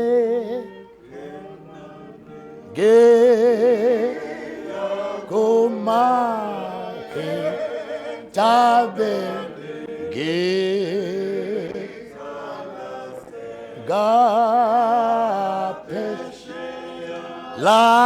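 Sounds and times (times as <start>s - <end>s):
person singing unaccompanied: 0.0s - 18.0s.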